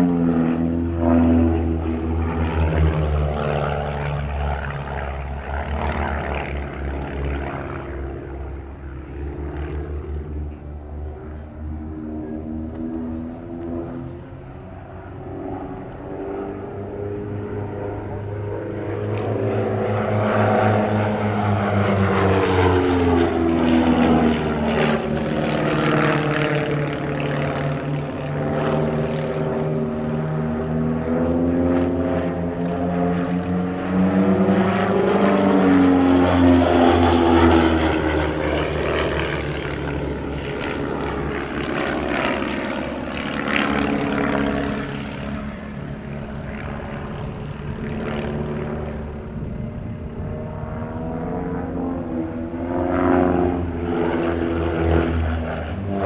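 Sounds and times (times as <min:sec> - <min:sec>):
propeller planes droning: 0:00.0 - 0:56.0.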